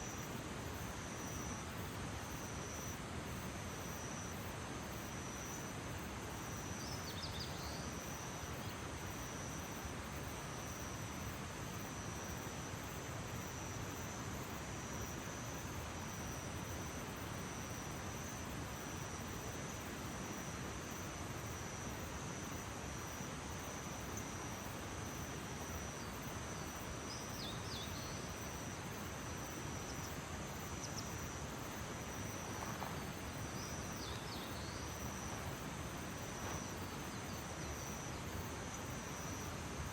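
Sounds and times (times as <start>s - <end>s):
background noise haze: 0.0s - 39.9s
high insect trill: 0.0s - 39.9s.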